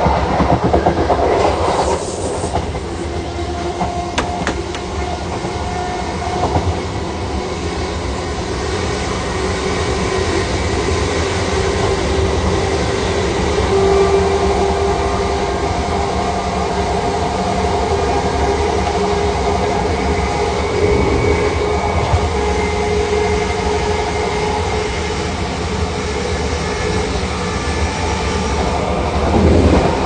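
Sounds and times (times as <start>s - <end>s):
train running rumble: 0.0s - 30.0s.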